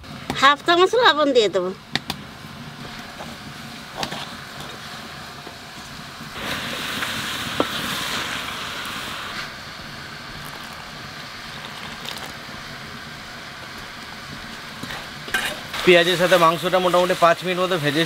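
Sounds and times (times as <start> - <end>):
food sizzling in a pot: 0.0 - 18.0.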